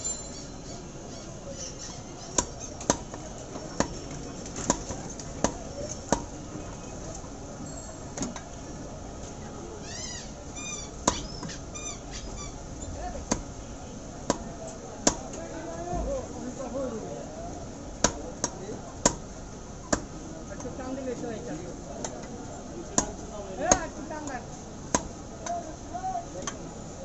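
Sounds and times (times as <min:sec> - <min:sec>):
steady background noise: 0:00.0 - 0:27.0.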